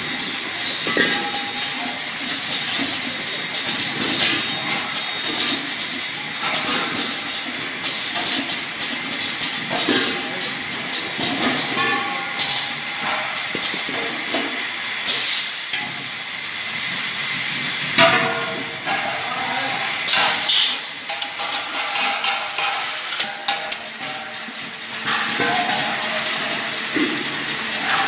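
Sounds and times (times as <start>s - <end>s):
filling machinery running: 0.0s - 28.0s.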